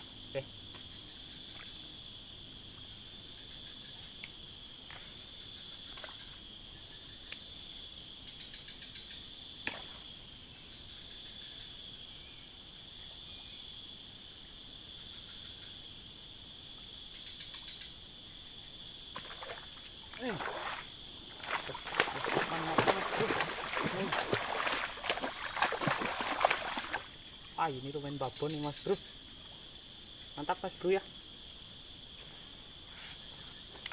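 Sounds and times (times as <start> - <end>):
insects buzzing: 0.0 - 33.9.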